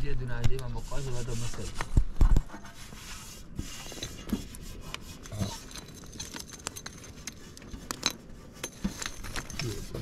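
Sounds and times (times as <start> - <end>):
light rubbing: 0.0 - 10.0.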